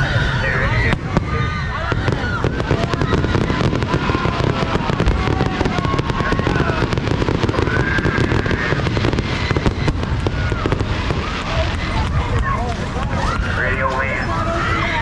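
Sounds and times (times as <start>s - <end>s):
continuous low rumble: 0.0s - 15.0s
fireworks crackling pops: 0.0s - 15.0s.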